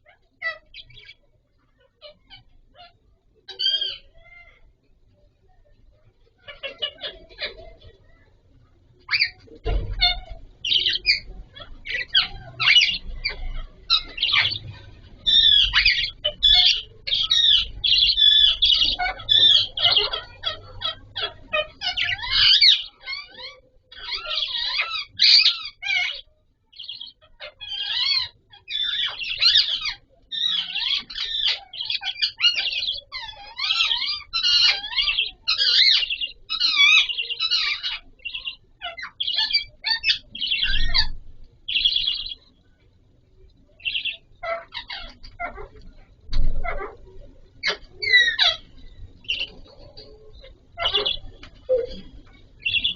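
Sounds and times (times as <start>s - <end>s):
budgerigars chirping and chattering: 0.0s - 52.9s.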